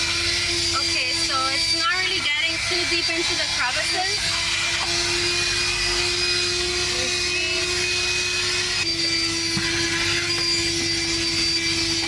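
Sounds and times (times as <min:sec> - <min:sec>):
handheld vacuum running: 0:00.0 - 0:12.0.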